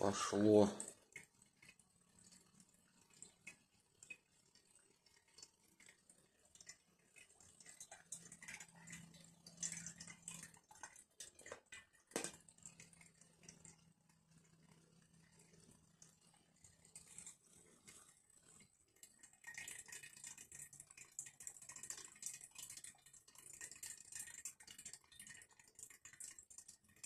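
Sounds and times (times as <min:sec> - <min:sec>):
liquid dripping and trickling: 0:00.0 - 0:27.0.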